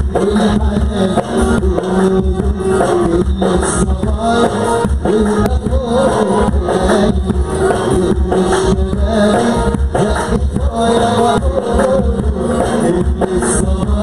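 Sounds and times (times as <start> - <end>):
person singing: 0.0 - 14.0
wedding band music: 0.0 - 14.0.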